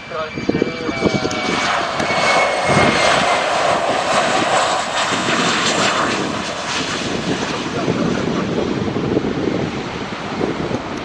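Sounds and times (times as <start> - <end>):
high jet whine: 0.0 - 11.0
jet engine rush: 0.0 - 11.0.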